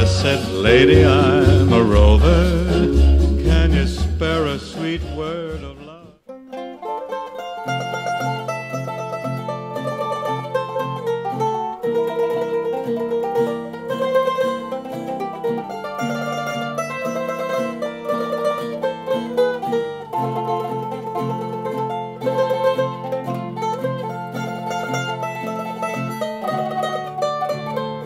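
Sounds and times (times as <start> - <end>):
plucked string music: 0.0 - 28.0.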